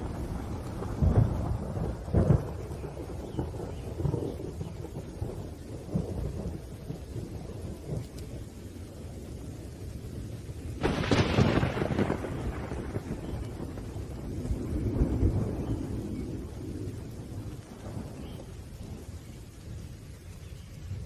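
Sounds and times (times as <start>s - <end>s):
loud thunderclap: 0.0s - 8.4s, 10.1s - 19.2s
rolling thunder: 0.0s - 21.0s
steady rain: 0.0s - 21.0s.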